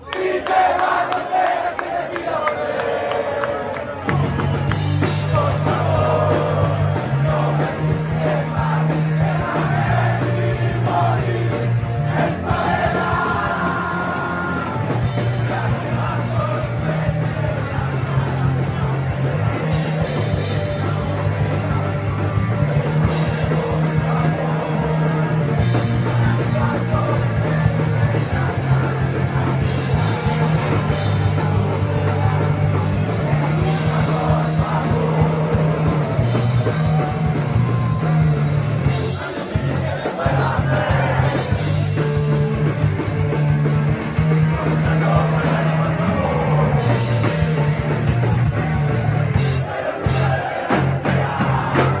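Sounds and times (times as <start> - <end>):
bass guitar: 3.9 - 52.0
drum kit: 4.0 - 52.0
distorted electric guitars: 4.1 - 52.0.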